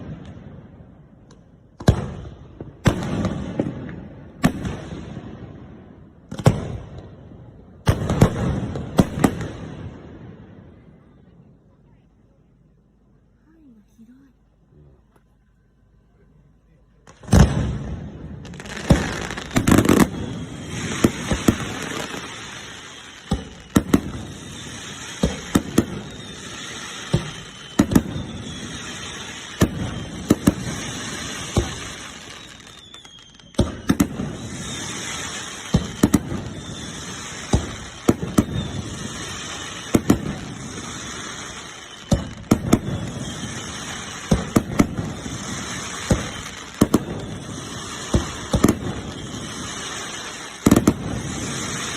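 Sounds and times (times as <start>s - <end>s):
fireworks crackling: 0.0s - 11.1s, 17.0s - 51.9s
fireworks bangs: 0.0s - 11.4s, 17.0s - 51.9s.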